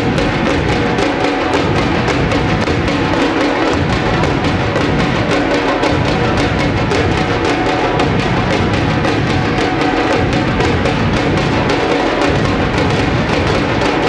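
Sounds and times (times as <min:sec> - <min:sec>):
drum ensemble playing: 0:00.0 - 0:14.0.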